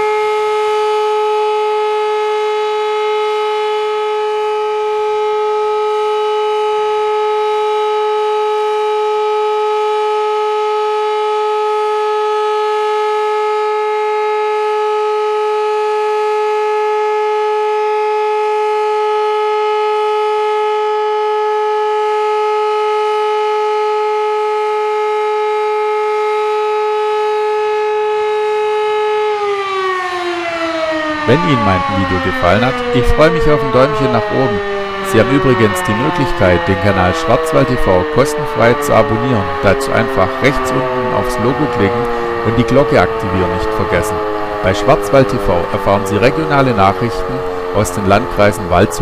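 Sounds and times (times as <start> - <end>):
siren steady tone: 0.0 - 49.0.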